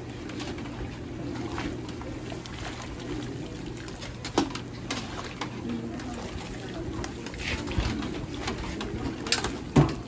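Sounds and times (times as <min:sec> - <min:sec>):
broth sloshing and pouring: 0:00.0 - 0:10.0.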